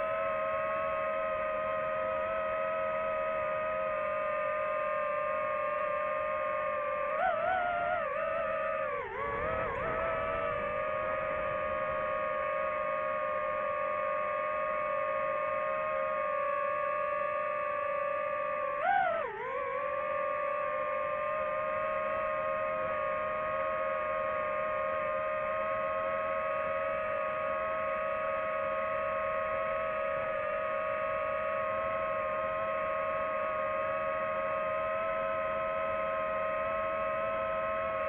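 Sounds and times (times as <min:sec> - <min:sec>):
drone propellers whining: 0:00.0 - 0:38.0.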